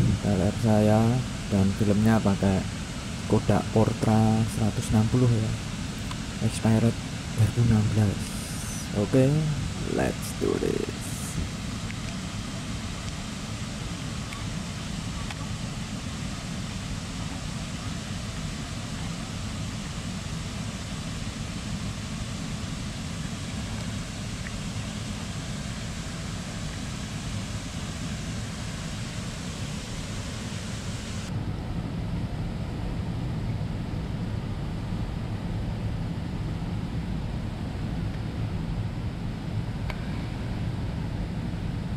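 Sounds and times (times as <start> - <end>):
steady rushing outdoor noise: 0.0 - 41.9.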